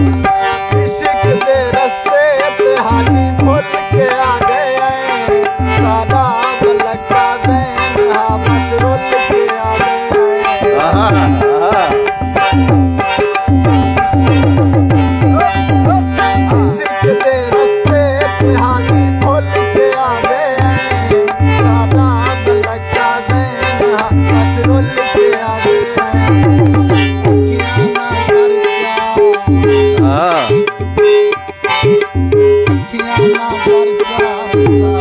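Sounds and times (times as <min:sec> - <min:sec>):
harmonium melody over drone: 0:00.0 - 0:35.0
man singing: 0:00.0 - 0:35.0.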